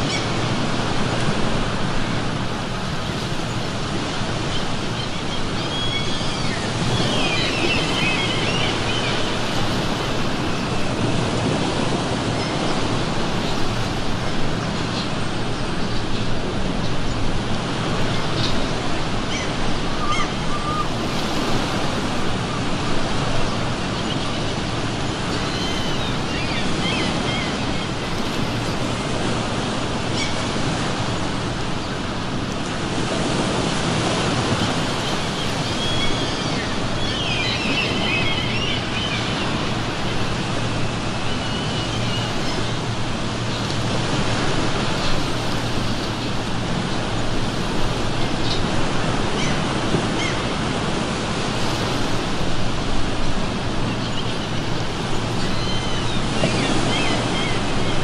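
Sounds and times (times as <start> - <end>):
ocean surf washing ashore: 0.0 - 58.0
gulls calling: 3.4 - 58.0.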